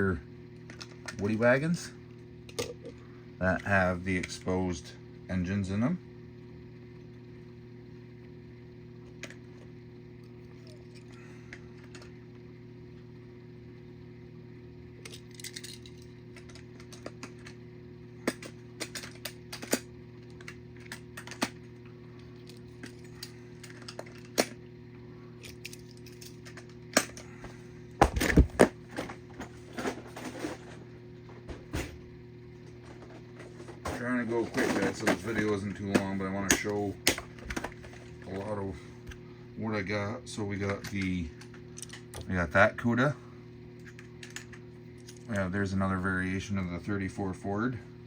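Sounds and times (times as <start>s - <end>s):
low hum: 0.0s - 48.0s.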